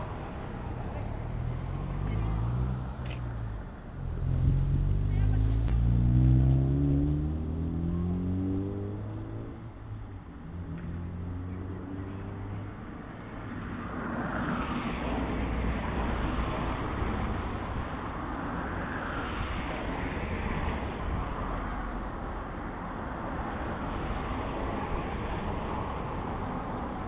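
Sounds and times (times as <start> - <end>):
car passing: 0.0 - 22.4.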